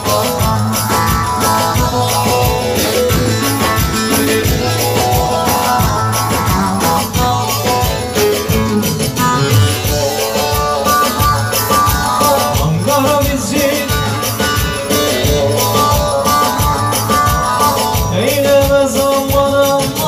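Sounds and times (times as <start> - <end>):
folk dance band playing: 0.0 - 19.5
bass: 0.0 - 20.0
steady drum beat: 0.0 - 20.0.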